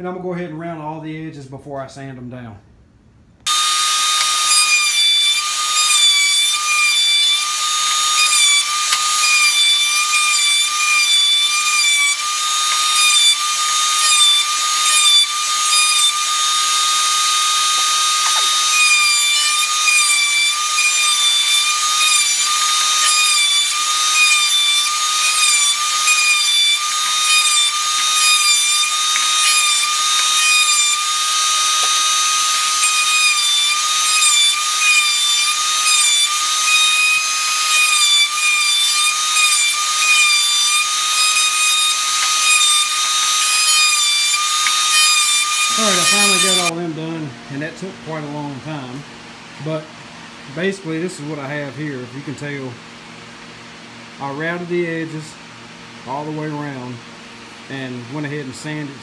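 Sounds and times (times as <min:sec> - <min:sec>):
electric router high whine: 0:03.4 - 0:51.4.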